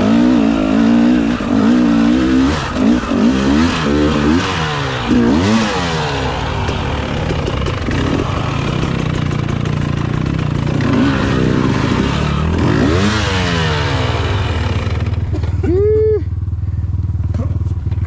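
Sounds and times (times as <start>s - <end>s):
dirt bike engine revving: 0.0s - 16.6s.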